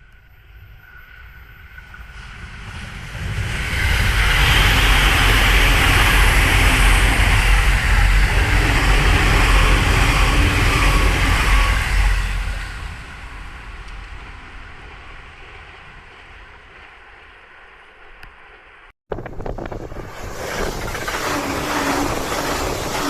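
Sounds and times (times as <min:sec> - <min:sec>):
electric train passing: 0:00.0 - 0:23.0
rush of noise: 0:00.0 - 0:23.0.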